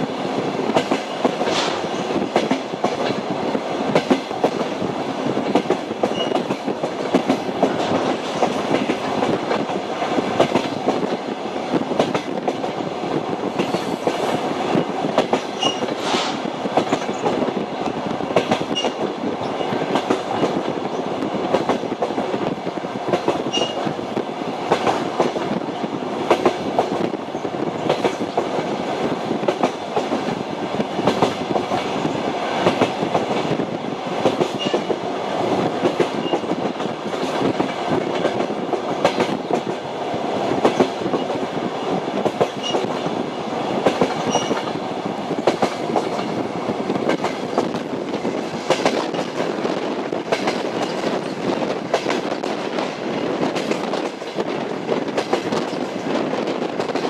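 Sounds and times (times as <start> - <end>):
train rumble: 0.0 - 57.0
train wheels clicking over rail joints: 0.3 - 57.0.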